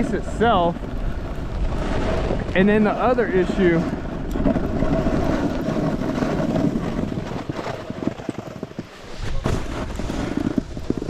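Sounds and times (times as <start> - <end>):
snowboard chattering over bumps: 0.0 - 11.0
snowboard scraping over snow: 0.0 - 11.0
wind on microphone: 0.0 - 11.0.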